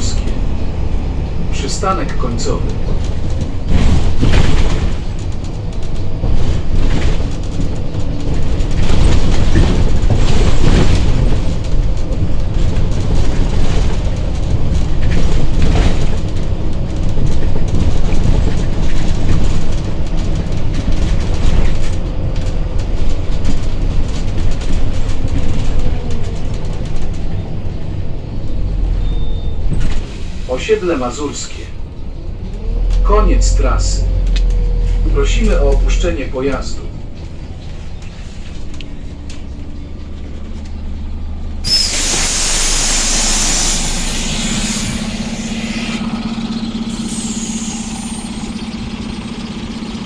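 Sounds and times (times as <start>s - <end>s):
body rattles and knocks: 0.0s - 42.1s
bus engine rumble with whine: 0.0s - 50.0s.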